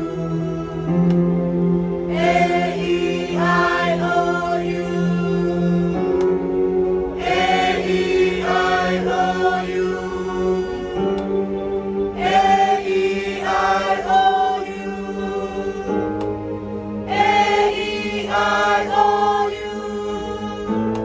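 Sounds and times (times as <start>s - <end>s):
choir singing vowels: 0.0s - 21.0s.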